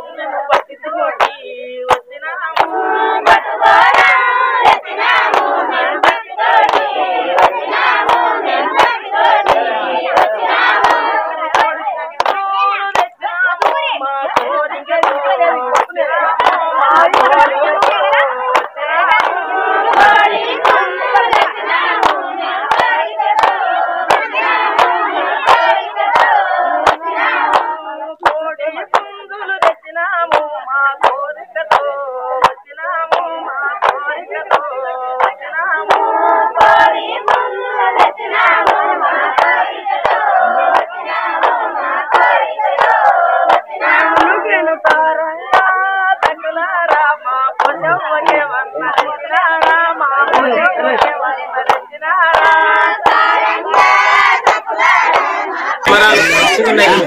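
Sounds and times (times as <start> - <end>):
women singing a folk song: 0.0 - 57.0
hands clapping: 0.5 - 57.0.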